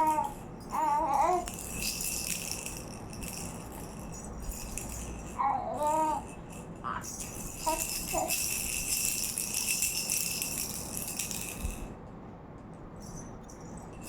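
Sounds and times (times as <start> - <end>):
toy rattle shaking: 0.0 - 12.0, 13.0 - 14.0.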